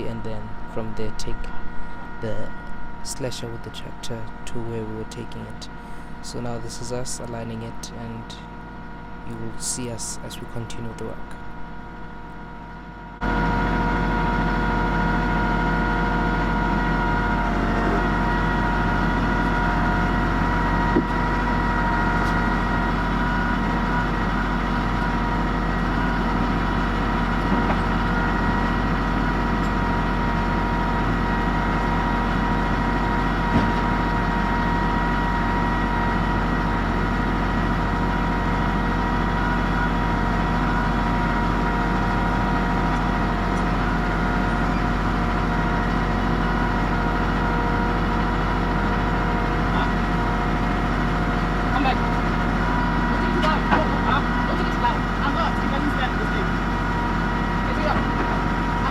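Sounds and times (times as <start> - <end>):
tractor engine idling: 0.0 - 58.9.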